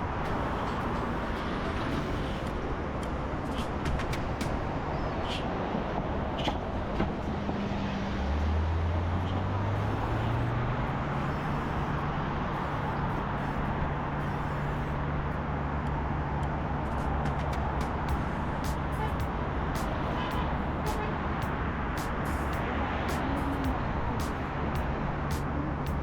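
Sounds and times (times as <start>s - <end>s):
rush of traffic: 0.0s - 26.0s
vehicle engine nearby: 0.0s - 26.0s.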